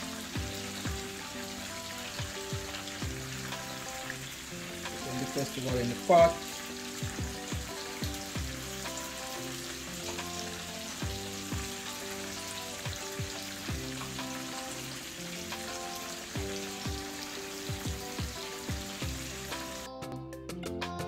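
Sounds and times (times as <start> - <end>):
hot oil sizzling: 0.0 - 19.9
background music with beat: 0.0 - 21.0.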